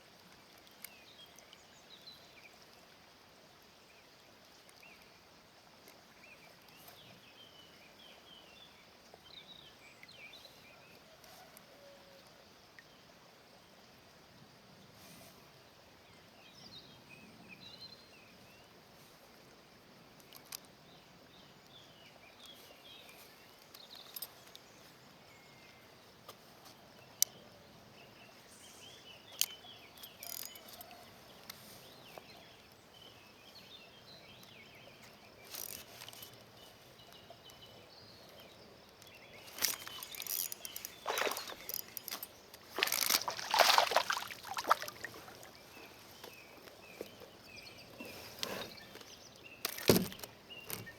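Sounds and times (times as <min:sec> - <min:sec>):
faint birdsong: 0:00.4 - 0:50.9.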